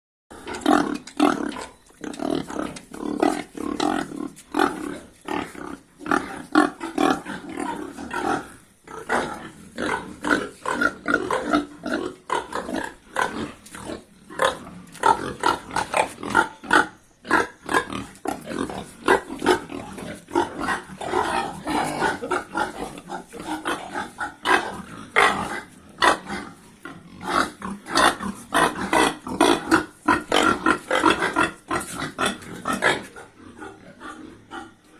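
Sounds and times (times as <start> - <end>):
pigs grunting: 0.3 - 34.9.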